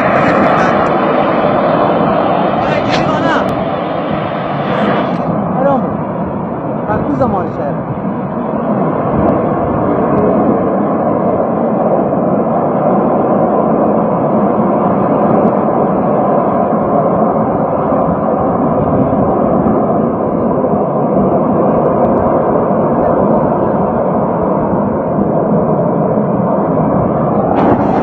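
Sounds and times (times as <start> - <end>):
loud rushing fire roar: 0.0 - 28.0.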